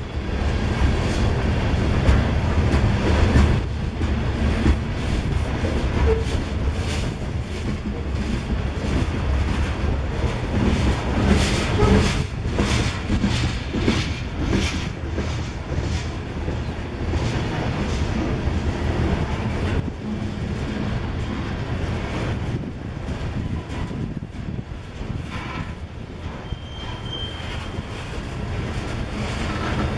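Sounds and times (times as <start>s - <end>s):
freight train rumble: 0.0s - 29.9s.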